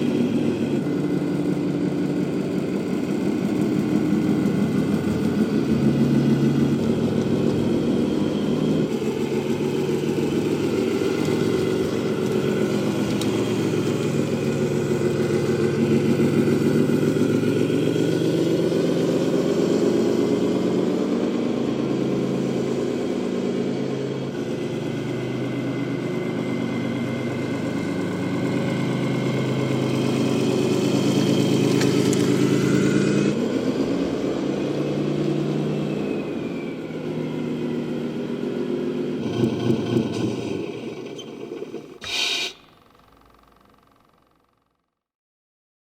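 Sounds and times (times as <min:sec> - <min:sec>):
simulated diesel truck engine: 0:00.0 - 0:44.9.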